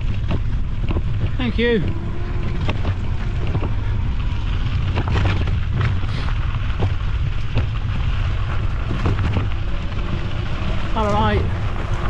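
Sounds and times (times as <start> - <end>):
bike clicks and knocks: 0.0 - 12.0
wind buffeting microphone: 0.0 - 12.0.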